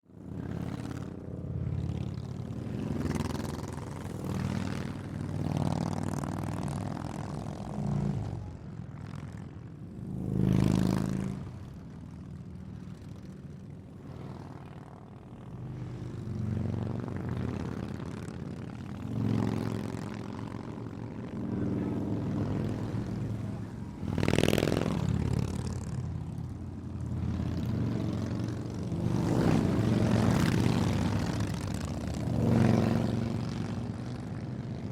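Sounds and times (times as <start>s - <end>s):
motorcycles passing by fast: 0.1s - 34.9s.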